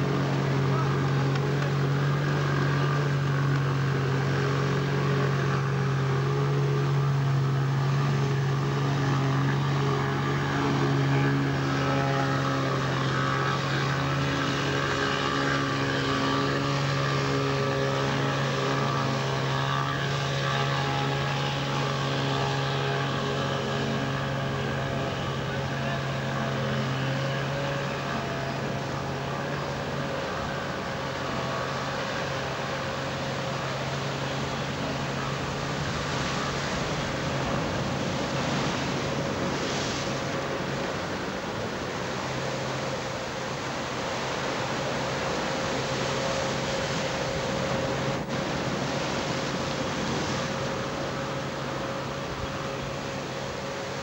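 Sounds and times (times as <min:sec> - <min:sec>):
boat motor running: 0:00.0 - 0:54.0.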